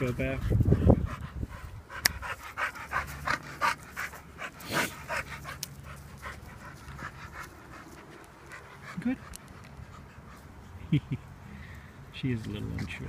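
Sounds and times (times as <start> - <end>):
dog panting rapidly: 0.0 - 10.8.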